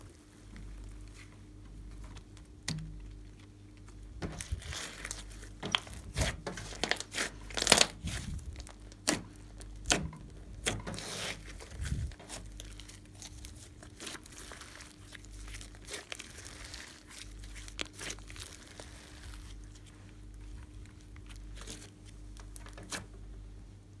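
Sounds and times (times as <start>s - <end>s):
hands squishing sticky slime: 2.0s - 23.1s.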